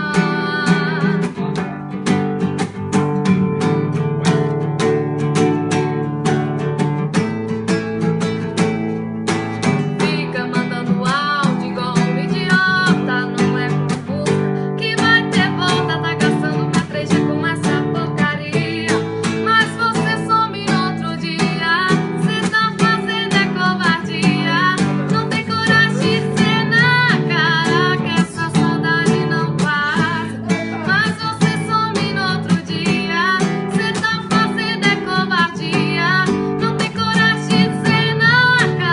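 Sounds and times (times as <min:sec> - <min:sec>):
woman singing: 0:00.0 - 0:04.5, 0:08.4 - 0:38.9
acoustic guitar strumming: 0:00.0 - 0:38.9.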